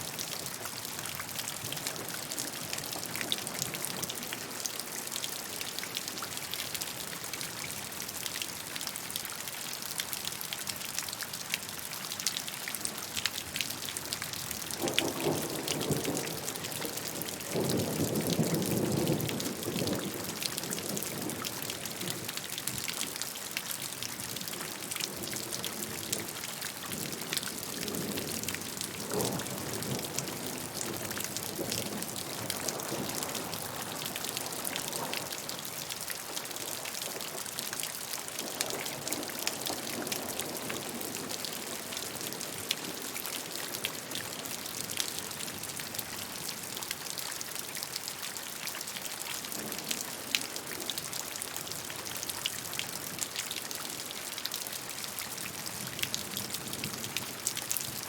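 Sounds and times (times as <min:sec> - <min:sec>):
raindrops ticking and splashing: 0:00.0 - 0:58.0.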